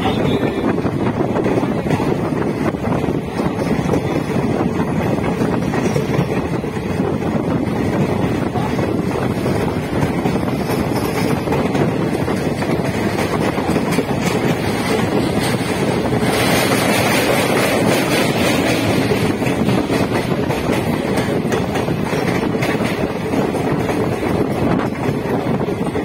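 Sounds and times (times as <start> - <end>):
train rushing noise: 0.0 - 26.0
wind buffeting microphone: 0.0 - 26.0.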